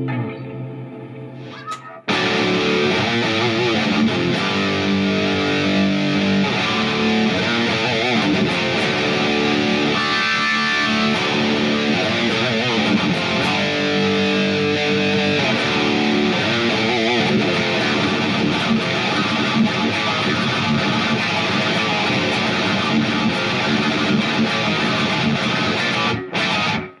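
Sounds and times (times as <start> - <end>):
electric guitar playing metal riffs: 0.0 - 27.0.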